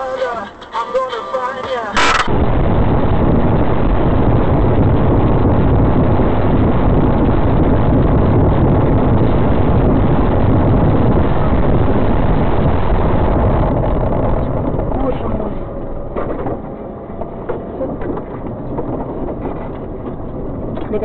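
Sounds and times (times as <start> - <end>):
moving vehicle rumble: 0.0 - 21.0.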